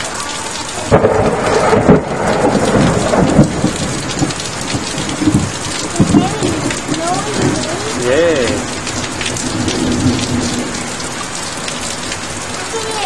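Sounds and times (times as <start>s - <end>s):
heavy rain pouring: 0.0s - 13.0s
thunderclap rumbling: 0.7s - 13.0s.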